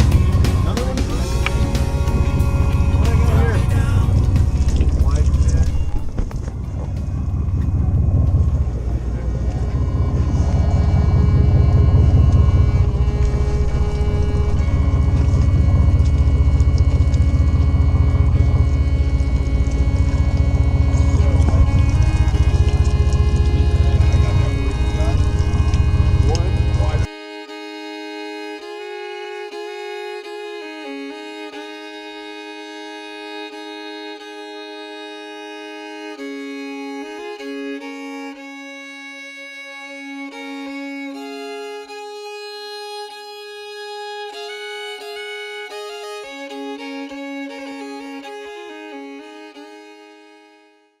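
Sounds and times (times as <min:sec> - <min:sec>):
slow violin melody: 0:00.0 - 0:51.0.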